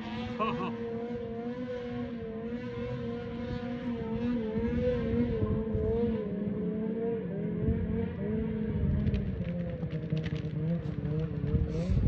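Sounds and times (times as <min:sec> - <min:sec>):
snowmobile engine at high revs: 0:00.0 - 0:12.0.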